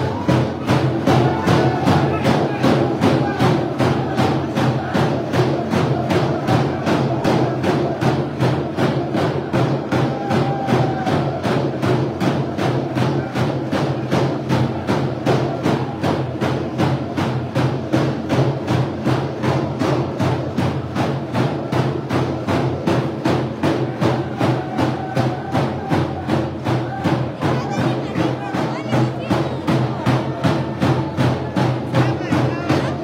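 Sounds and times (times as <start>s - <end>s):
people singing a chant: 0.0s - 17.4s, 22.8s - 33.0s
frame drums beating: 0.0s - 33.0s.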